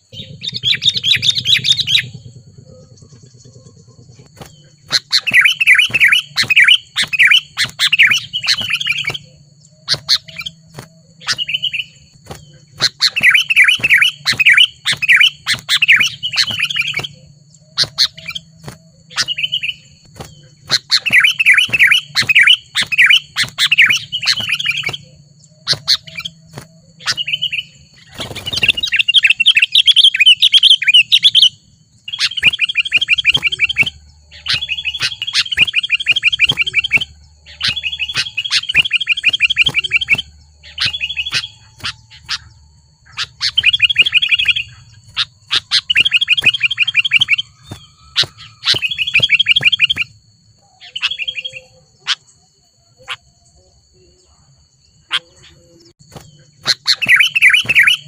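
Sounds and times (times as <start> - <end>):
low steady hum: 0.0 - 50.8
bird chattering song: 0.0 - 58.0
bird single calls: 0.0 - 58.0.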